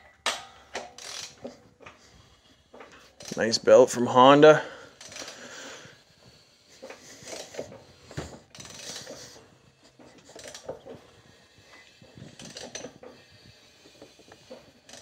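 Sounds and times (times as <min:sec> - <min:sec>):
tool rubbing and scraping: 0:00.6 - 0:15.0.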